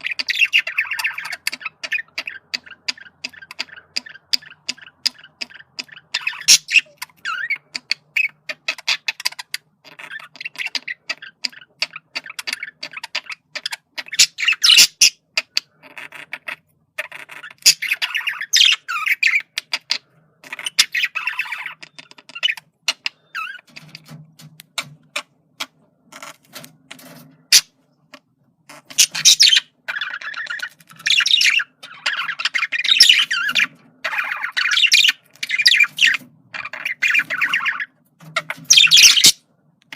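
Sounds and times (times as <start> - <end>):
budgerigar chattering: 0.0 - 23.8, 28.7 - 39.4.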